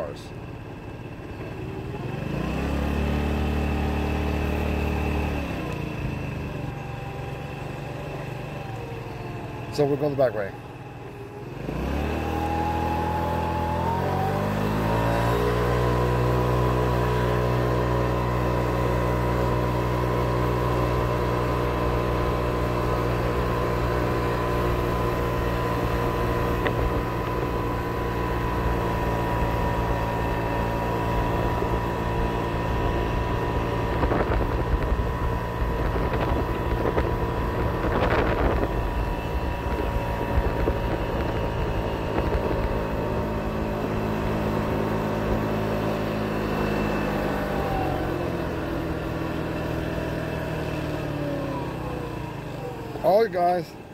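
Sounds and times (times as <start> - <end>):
moped engine running: 0.0 - 53.9
wind and road noise: 0.0 - 53.9.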